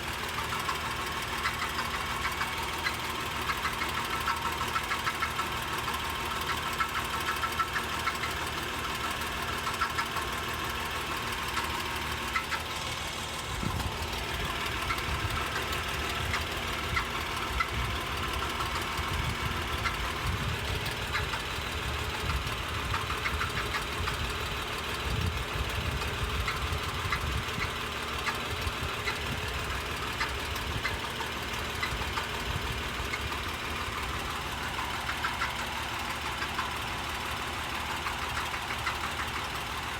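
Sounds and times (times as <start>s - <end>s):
car engine running: 0.0s - 39.9s
light rattle of ticks: 0.0s - 39.9s.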